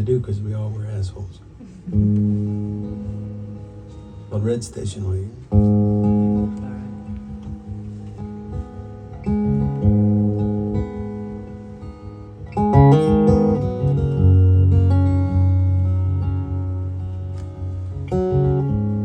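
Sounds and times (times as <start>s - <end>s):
acoustic guitar strumming: 1.7s - 19.0s.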